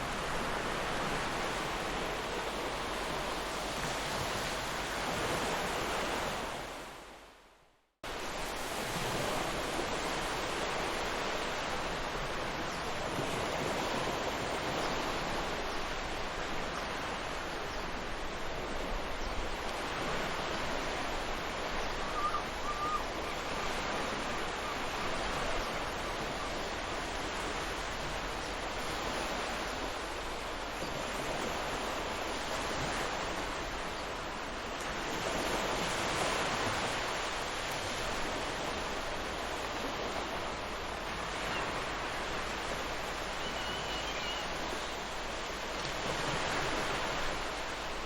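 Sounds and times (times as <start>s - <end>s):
ocean surf washing on beach: 0.0s - 7.3s, 8.1s - 48.0s.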